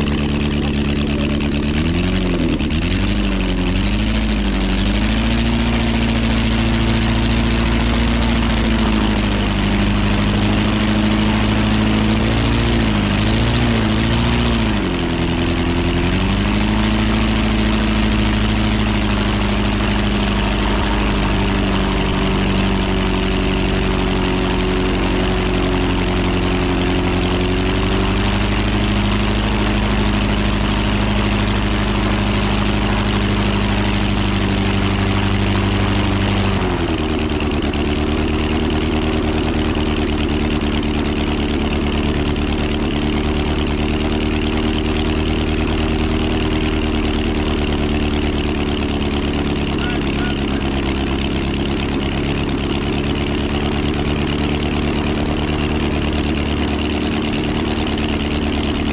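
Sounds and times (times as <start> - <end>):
aero engine running: 0.0 - 58.9.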